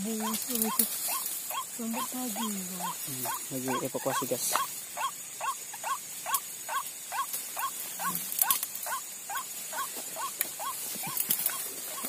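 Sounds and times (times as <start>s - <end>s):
waterhen calling: 0.0s - 12.0s.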